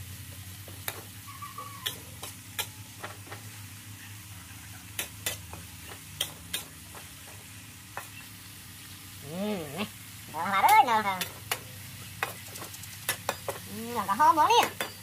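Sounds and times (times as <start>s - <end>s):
food frying hiss: 0.0s - 15.0s.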